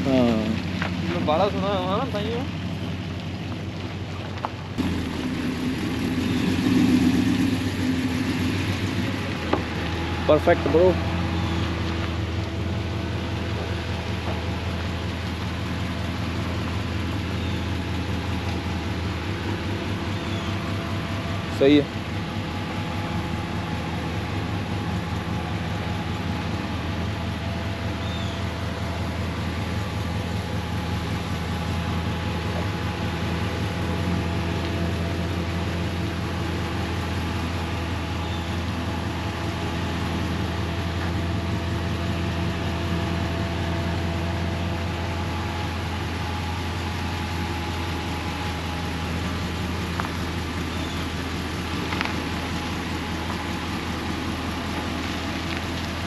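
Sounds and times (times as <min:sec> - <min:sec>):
vehicle engine humming: 0:00.0 - 0:56.0.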